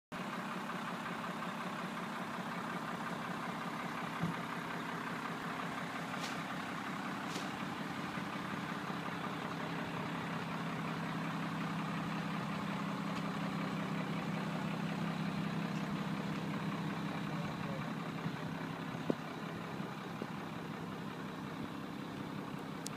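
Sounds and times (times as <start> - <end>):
truck engine idling: 0.1 - 22.9.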